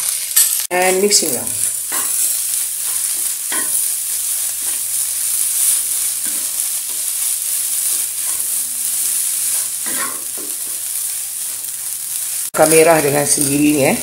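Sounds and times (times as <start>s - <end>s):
fried rice sizzling in a wok: 0.0s - 14.0s.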